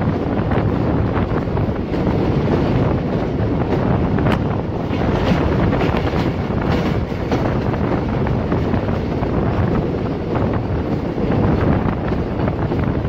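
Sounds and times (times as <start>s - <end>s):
train carriage rumbling on track: 0.0s - 13.0s
wind buffeting microphone: 0.0s - 13.0s.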